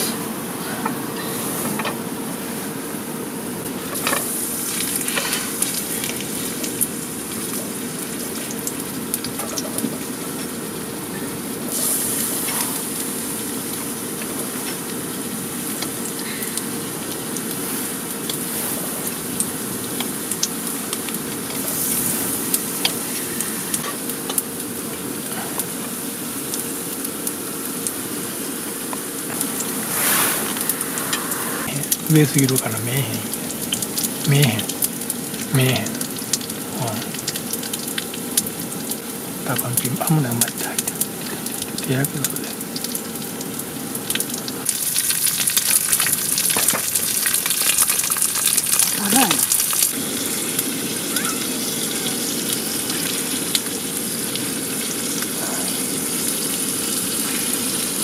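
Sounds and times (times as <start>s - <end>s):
faint steady hum: 0.0s - 58.0s
garlic sizzling in oil: 0.6s - 58.0s
oil popping and crackling: 3.6s - 31.0s, 31.7s - 58.0s.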